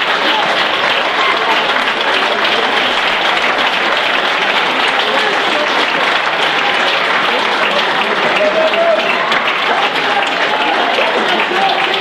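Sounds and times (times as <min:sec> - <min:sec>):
crowd applauding: 0:00.0 - 0:12.0
scattered voices: 0:00.0 - 0:12.0.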